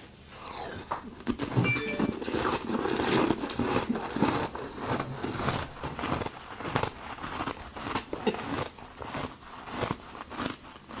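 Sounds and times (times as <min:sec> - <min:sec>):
crunchy chewing: 0:00.3 - 0:11.0.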